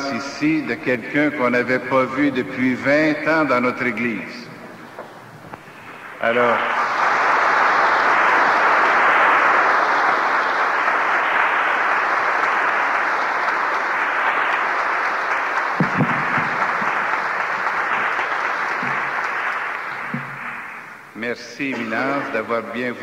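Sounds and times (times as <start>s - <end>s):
congregation applauding: 0.0s - 2.3s, 3.2s - 23.0s.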